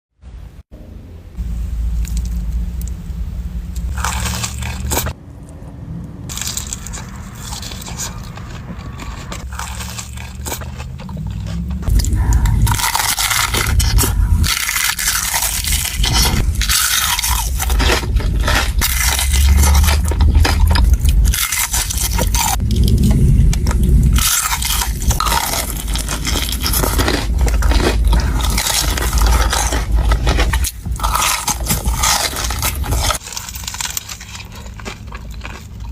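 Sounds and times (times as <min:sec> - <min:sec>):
crunching and chewing food: 0:01.9 - 0:03.0, 0:03.7 - 0:05.6, 0:06.3 - 0:35.9.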